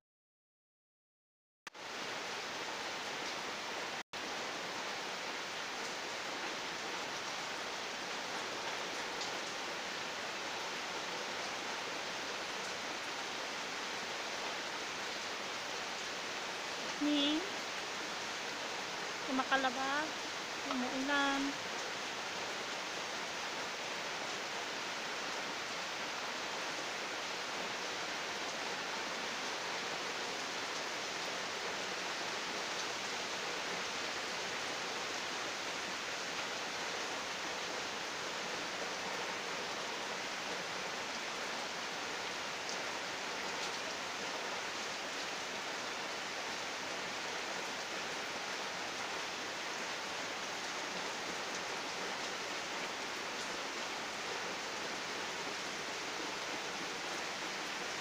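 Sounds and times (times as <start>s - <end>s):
steady rain falling: 1.7s - 58.0s.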